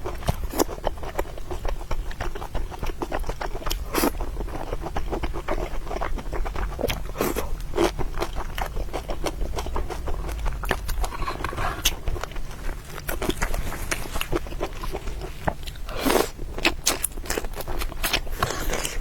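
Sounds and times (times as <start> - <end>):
chewing and mouth smacks: 0.0 - 19.0.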